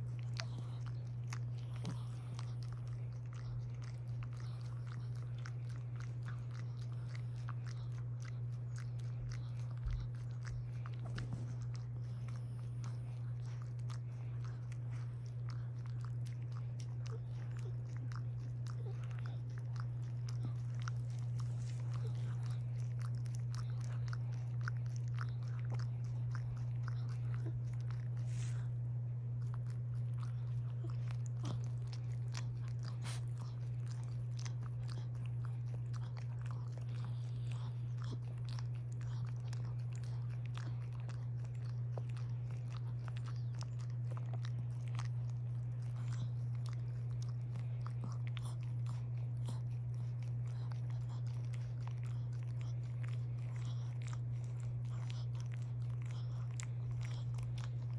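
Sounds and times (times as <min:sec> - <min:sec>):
dog licking with wet clicks: 0:00.0 - 0:57.9
steady low hum: 0:00.0 - 0:57.9.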